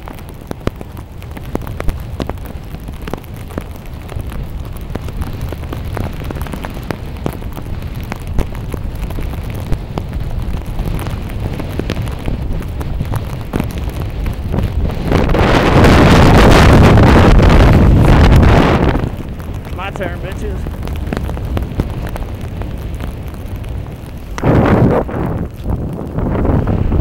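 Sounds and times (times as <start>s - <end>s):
sharp crackling clicks: 0.0s - 26.6s
wind buffeting microphone: 0.0s - 27.0s.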